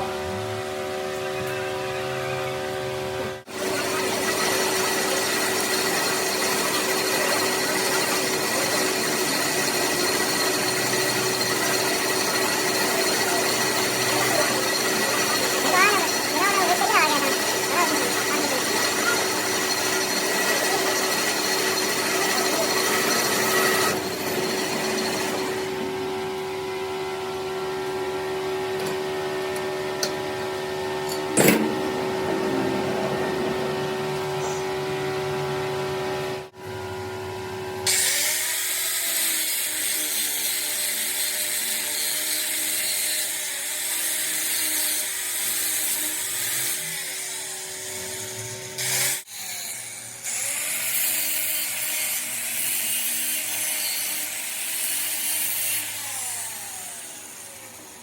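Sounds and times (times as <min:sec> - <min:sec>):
power tool whining: 0:00.2 - 0:28.0, 0:37.8 - 0:58.0.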